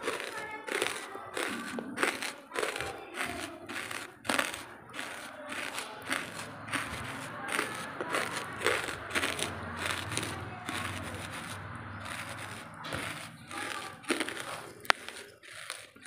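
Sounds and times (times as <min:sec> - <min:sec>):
crisp crunching chewing: 0:00.0 - 0:16.0.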